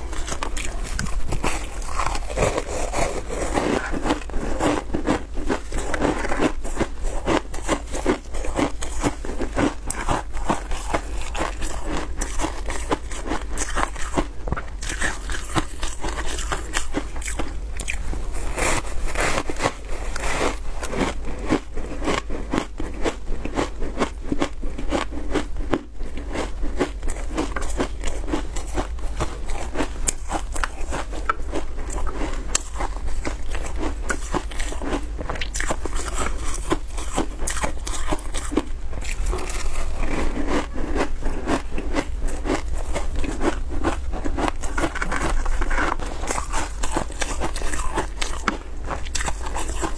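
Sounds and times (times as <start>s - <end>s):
crunching ice: 0.0s - 49.9s.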